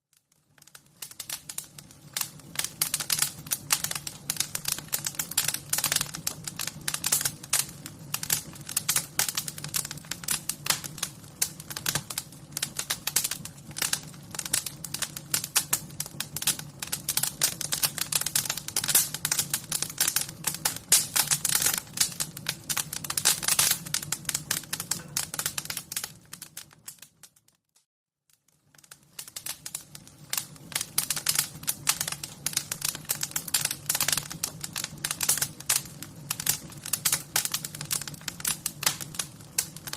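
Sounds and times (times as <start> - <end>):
wood fire crackling and popping: 0.1 - 27.6, 28.3 - 39.9.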